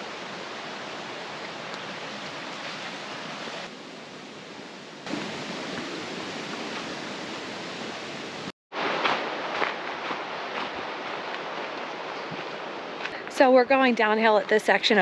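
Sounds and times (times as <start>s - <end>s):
creek water rushing: 0.0s - 13.2s.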